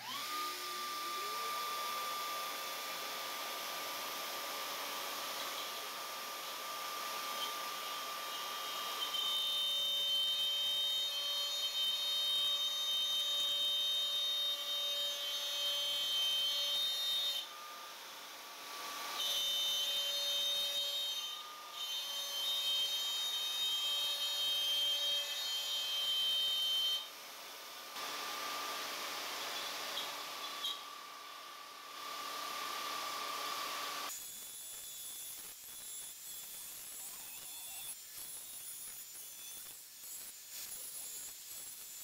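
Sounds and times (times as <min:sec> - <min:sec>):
router whining: 0:00.0 - 0:42.0.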